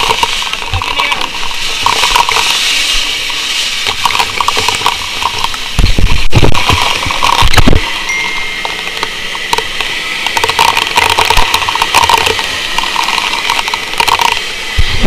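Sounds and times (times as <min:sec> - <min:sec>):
crackles: 0:00.0 - 0:15.0
hose spraying jet of water: 0:00.0 - 0:15.0.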